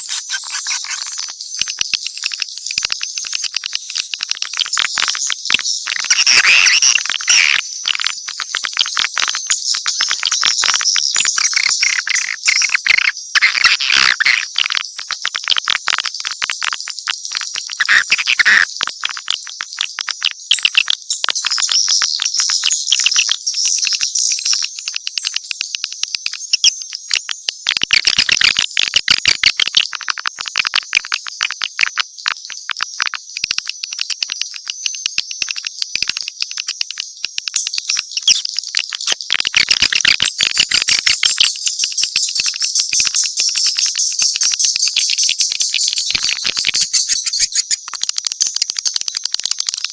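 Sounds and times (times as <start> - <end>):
swiftlets twittering and clicking: 0.0 - 49.9.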